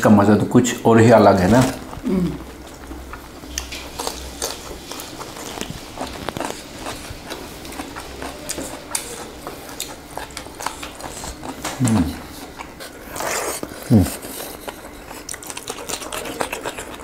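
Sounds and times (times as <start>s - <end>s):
faint low hum: 0.0s - 17.0s
close chewing and biting: 1.8s - 17.0s.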